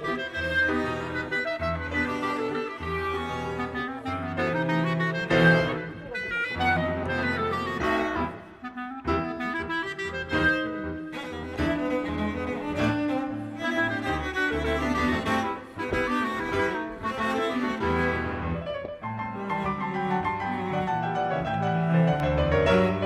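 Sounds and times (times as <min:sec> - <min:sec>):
cello and bowed strings: 0:00.0 - 0:23.0
piano: 0:00.0 - 0:23.0.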